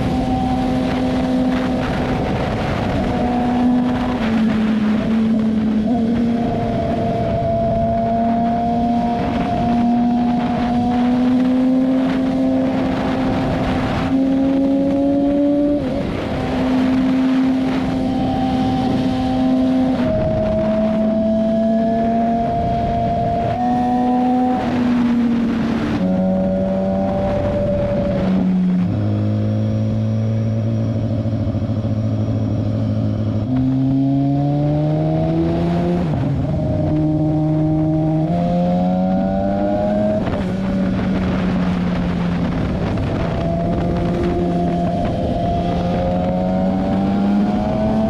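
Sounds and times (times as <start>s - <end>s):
motorcycle engine revving through gears: 0.0s - 48.0s.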